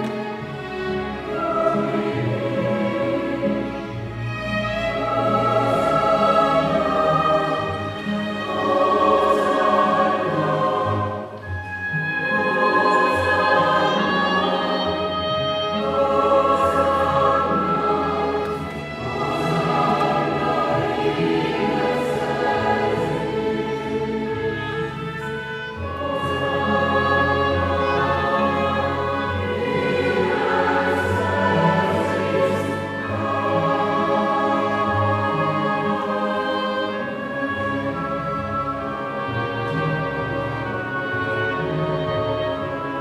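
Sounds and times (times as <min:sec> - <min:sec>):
chamber orchestra: 0:00.0 - 0:43.0
choir singing: 0:00.0 - 0:43.0.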